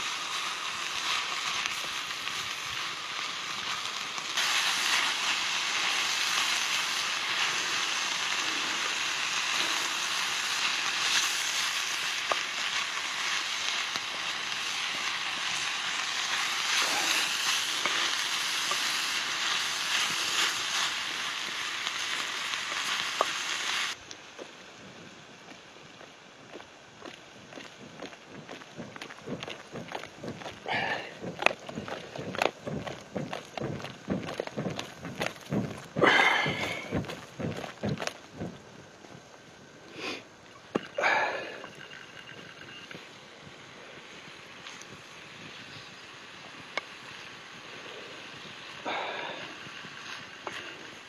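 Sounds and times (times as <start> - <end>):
sausage sizzling in a pan: 0.0 - 24.0, 27.8 - 37.7, 40.9 - 51.0
faint outdoor background: 0.0 - 51.0.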